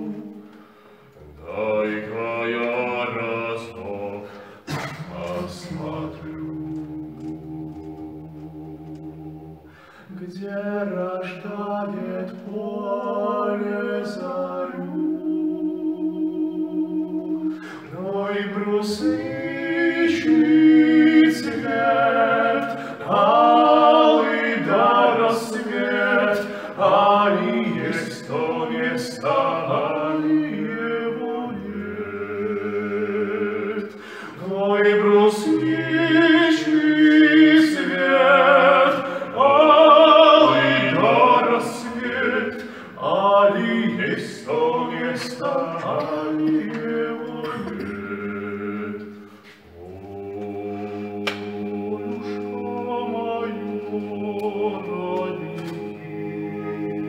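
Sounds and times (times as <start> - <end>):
two men singing in harmony: 0.0 - 57.0.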